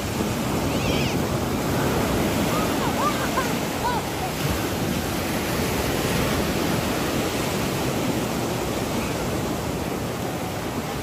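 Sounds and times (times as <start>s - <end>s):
waves breaking in shallow water: 0.0s - 11.0s.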